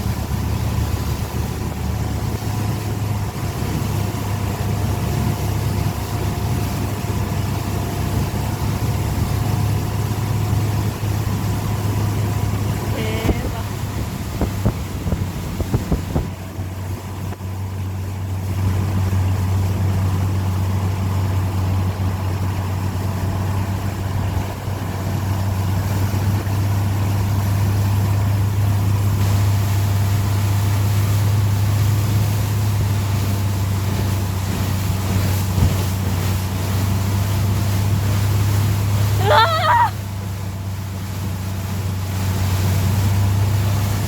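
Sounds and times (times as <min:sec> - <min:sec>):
wind buffeting microphone: 0:00.0 - 0:20.1, 0:21.7 - 0:39.0
boat engine drone: 0:00.0 - 0:44.0
water rushing: 0:00.0 - 0:44.0.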